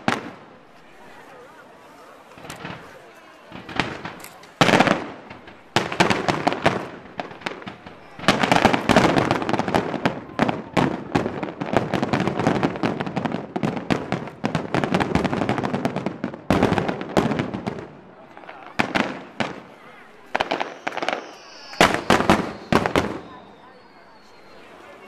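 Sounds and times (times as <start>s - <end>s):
fireworks crackling and popping: 0.0s - 1.3s, 1.9s - 25.0s
fireworks bangs: 0.0s - 25.0s.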